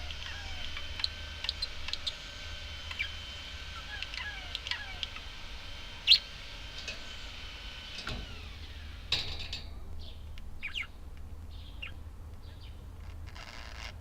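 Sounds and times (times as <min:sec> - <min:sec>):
budgerigars chirping and whistling: 0:00.0 - 0:07.4, 0:10.0 - 0:14.0.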